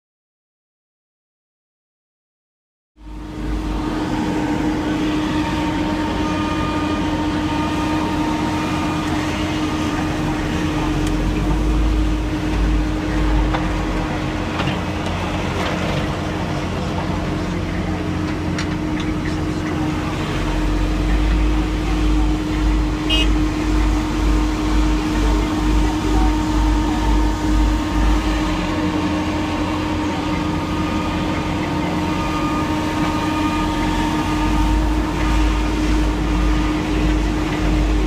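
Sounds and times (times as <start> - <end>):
heavy diesel machinery rumbling: 3.0 - 38.0.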